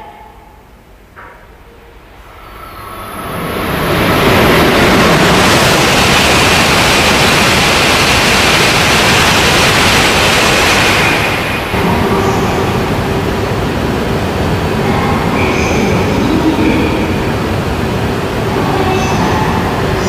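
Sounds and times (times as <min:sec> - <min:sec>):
high-speed train passing: 0:00.0 - 0:20.0.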